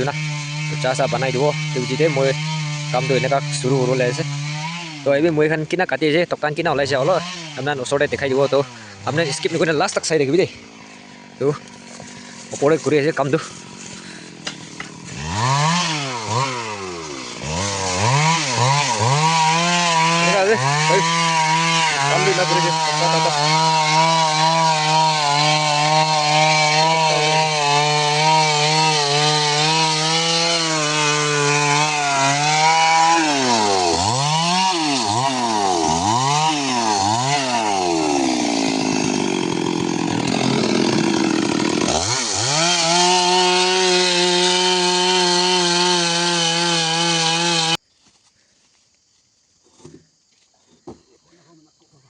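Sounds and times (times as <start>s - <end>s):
chainsaw cutting wood: 0.0s - 47.8s.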